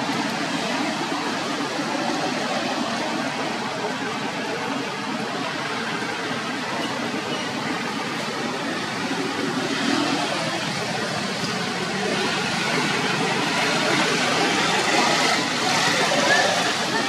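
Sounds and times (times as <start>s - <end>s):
steady rushing background noise: 0.0s - 17.0s.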